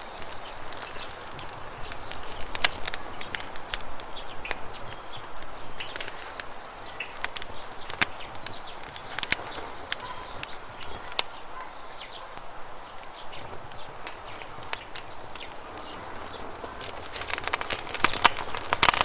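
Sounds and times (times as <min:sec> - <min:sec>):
campfire crackling and popping: 0:00.0 - 0:19.0
small birds chirping: 0:00.0 - 0:19.0.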